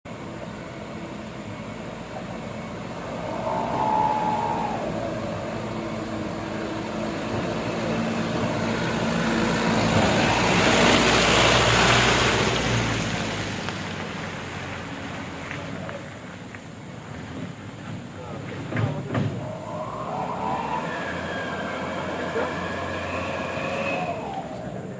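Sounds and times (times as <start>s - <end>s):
truck diesel engine under load: 0.1s - 24.9s.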